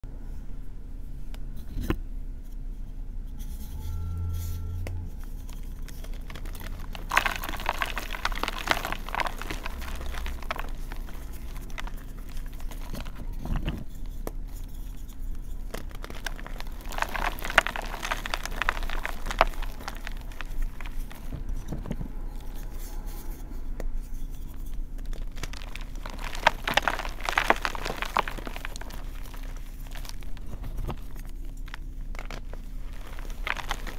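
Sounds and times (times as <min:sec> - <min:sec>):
fingers crumbling chalk: 0:05.1 - 0:33.9.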